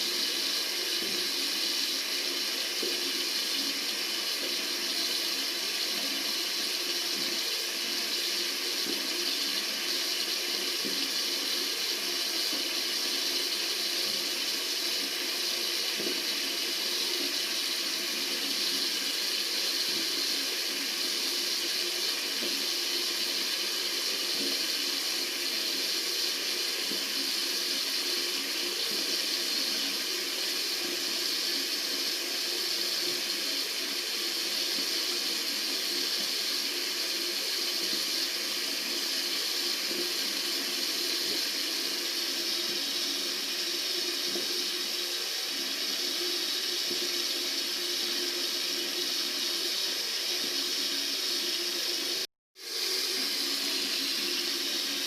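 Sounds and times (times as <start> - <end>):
tap water running: 0.0 - 55.0.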